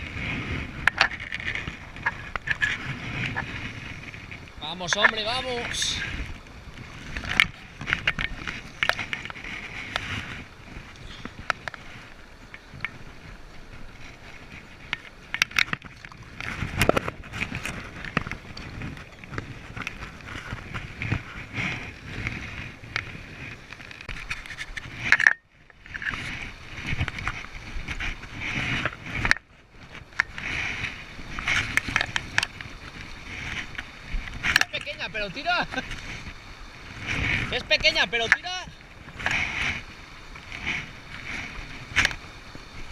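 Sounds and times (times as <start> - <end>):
fishing tackle clicks and scrapes: 0.0 - 42.9
river rushing: 0.0 - 42.9.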